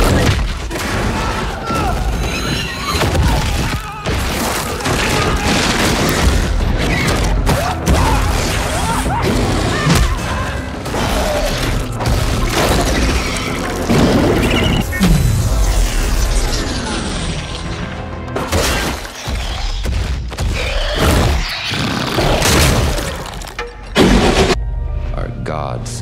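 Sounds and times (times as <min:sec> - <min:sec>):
dramatic film score: 0:00.0 - 0:26.0.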